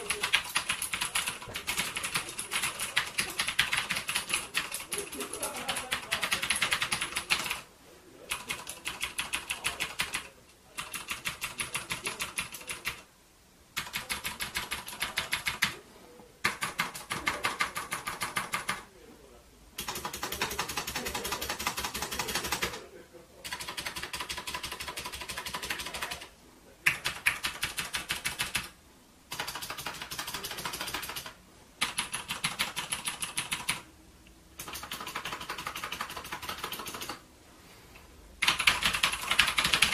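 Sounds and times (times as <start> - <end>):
keyboard typing: 0.0 - 7.7, 8.3 - 13.1, 13.8 - 15.8, 16.4 - 18.9, 19.8 - 33.9, 34.6 - 37.2, 38.4 - 39.9.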